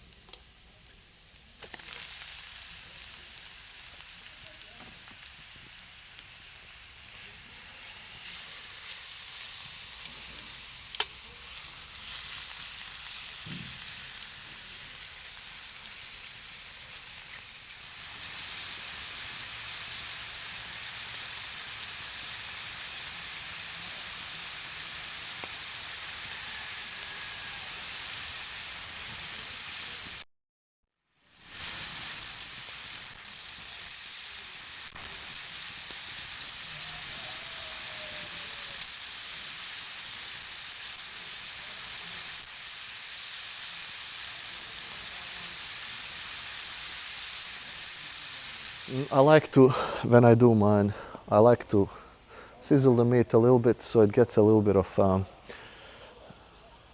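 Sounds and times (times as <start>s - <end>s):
meat sizzling in a hot pan: 0.0s - 30.2s, 31.2s - 49.5s.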